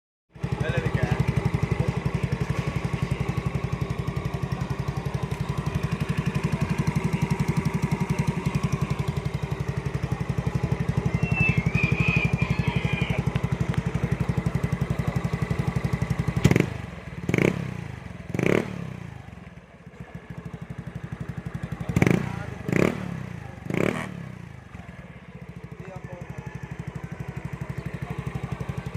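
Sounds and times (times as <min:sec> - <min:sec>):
scooter engine idling and revving: 0:00.3 - 0:28.9.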